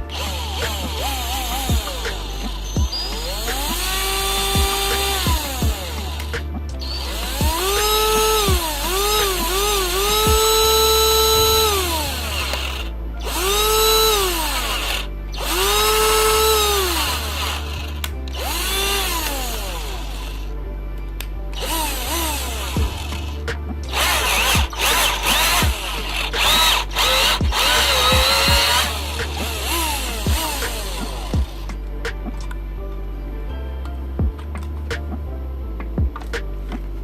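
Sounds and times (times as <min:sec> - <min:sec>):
cordless drill motor whine: 0:00.0 - 0:20.6, 0:21.6 - 0:31.7
background music: 0:00.0 - 0:37.0.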